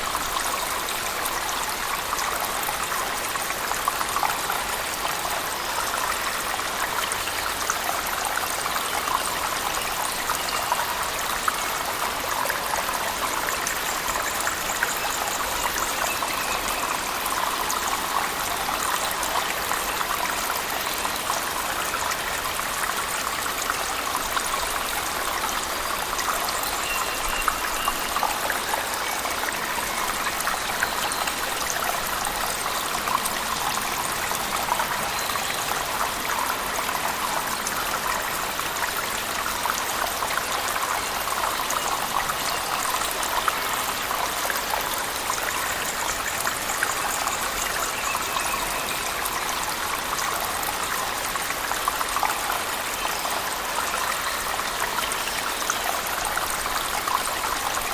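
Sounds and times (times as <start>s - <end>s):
water drips and splashes: 0.0s - 57.9s.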